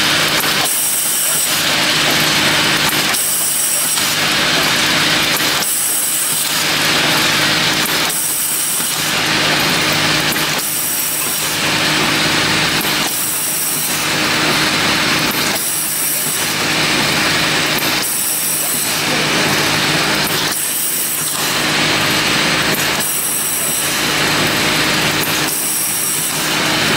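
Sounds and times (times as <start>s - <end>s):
packaging machinery rushing: 0.0s - 26.9s
steady machine hum: 0.0s - 26.9s.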